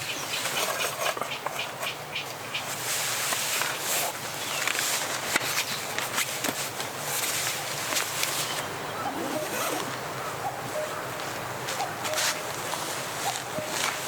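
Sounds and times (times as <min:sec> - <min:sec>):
wind rustling through forest: 0:00.0 - 0:14.0.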